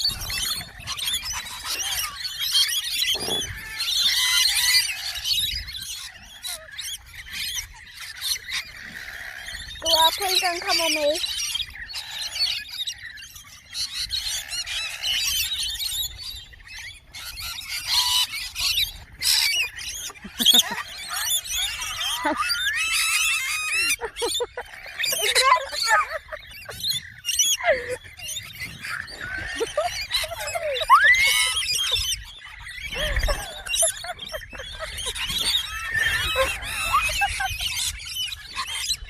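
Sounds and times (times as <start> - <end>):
birds chirping and whistling: 0.0 - 39.0.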